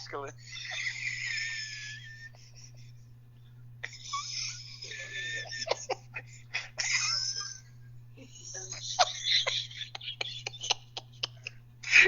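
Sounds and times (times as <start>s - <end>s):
people laughing: 0.0s - 3.0s, 3.8s - 12.0s
low electrical hum: 0.0s - 12.0s.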